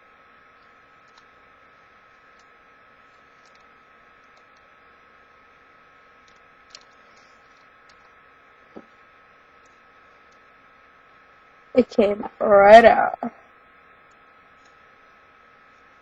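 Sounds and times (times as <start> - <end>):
thin high hum: 0.0 - 16.0.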